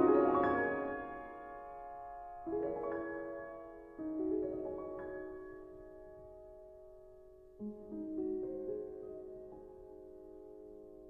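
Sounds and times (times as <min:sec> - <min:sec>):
soft piano chords ringing: 0:00.0 - 0:11.0.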